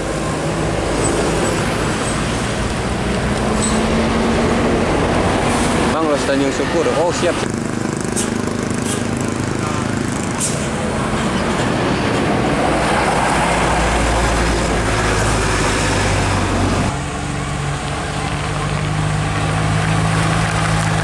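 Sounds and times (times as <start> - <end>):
bus diesel engine under load: 0.0 - 21.0
road noise: 0.0 - 21.0.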